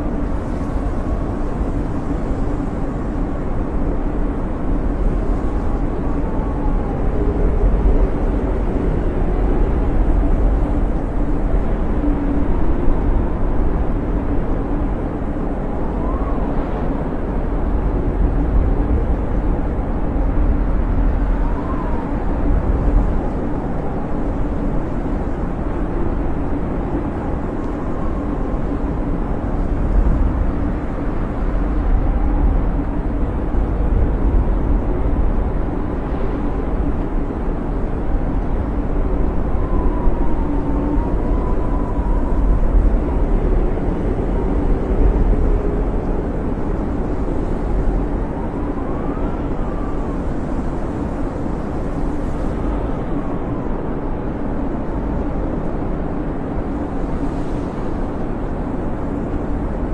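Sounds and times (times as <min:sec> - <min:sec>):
howling snowstorm wind: 0:00.0 - 0:59.9.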